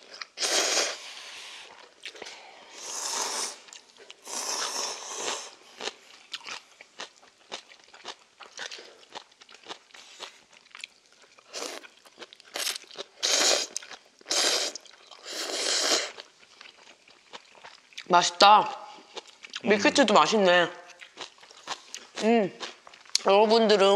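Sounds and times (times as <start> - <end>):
chewing: 0.0 - 2.4, 3.0 - 18.1, 18.7 - 19.7, 20.9 - 23.3.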